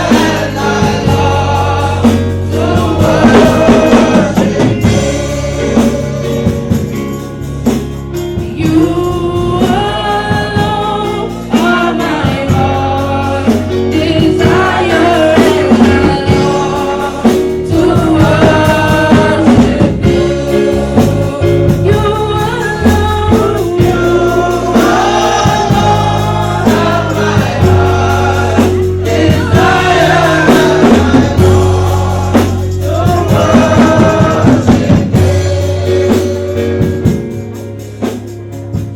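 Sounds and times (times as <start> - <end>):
gospel choir singing: 0.0 - 38.9.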